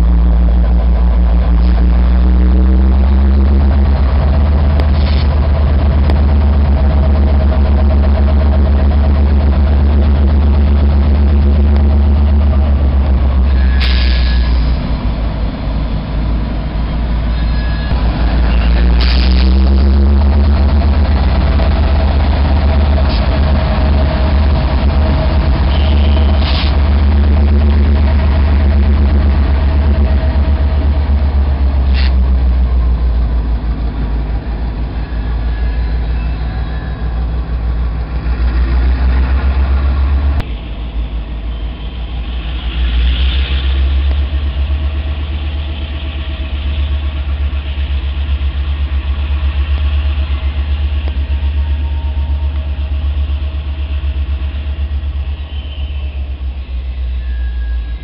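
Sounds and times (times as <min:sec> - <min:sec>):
locomotive engine rumble: 0:00.0 - 0:58.0.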